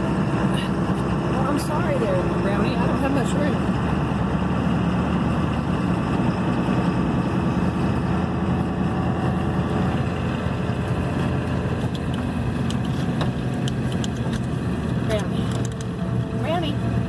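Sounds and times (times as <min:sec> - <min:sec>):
truck engine rumble inside cab: 0:00.0 - 0:17.0.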